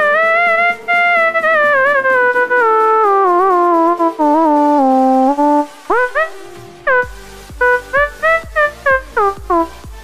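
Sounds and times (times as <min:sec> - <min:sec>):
synth lead sliding notes: 0:00.0 - 0:10.0.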